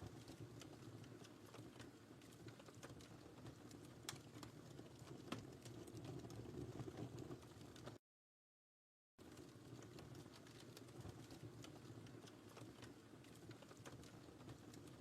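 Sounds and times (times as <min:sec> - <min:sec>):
wood fire burning: 0:00.0 - 0:08.0, 0:09.2 - 0:15.0.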